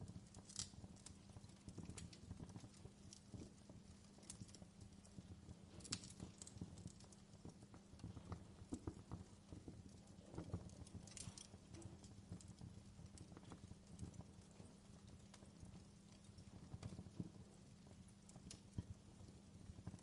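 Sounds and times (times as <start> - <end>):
faint low hum: 0.0 - 20.0
fireplace crackling: 0.0 - 20.0.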